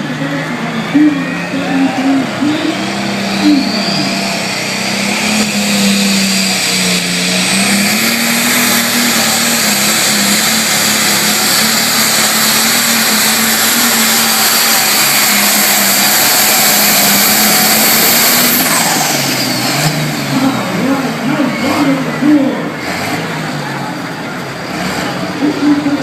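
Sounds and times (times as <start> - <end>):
tractor diesel engine at full power: 0.0 - 26.0.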